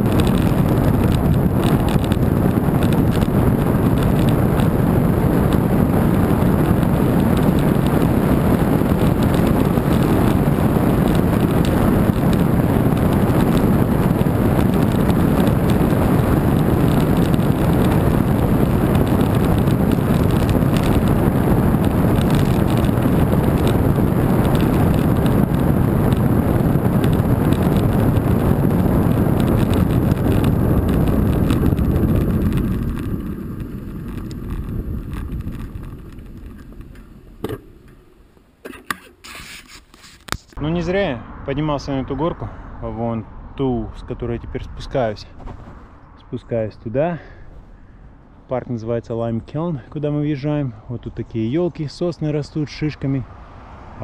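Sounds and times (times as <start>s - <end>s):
wind rush on microphone: 0.0s - 38.3s, 40.2s - 54.0s.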